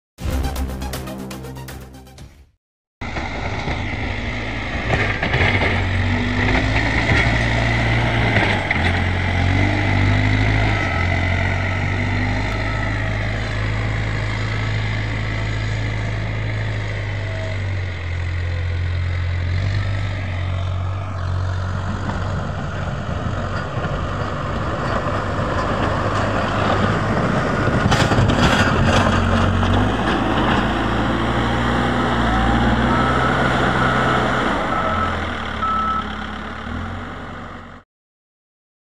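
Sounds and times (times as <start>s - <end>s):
diesel engine under load: 3.0s - 37.8s.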